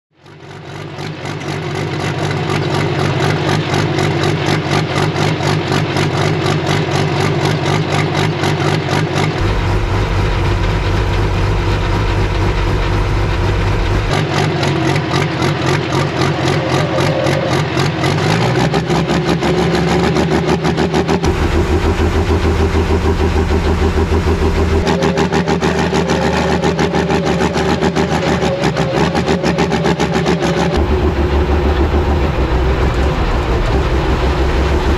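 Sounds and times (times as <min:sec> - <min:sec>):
diesel engine idling with heavy pulsing: 0:00.2 - 0:34.9.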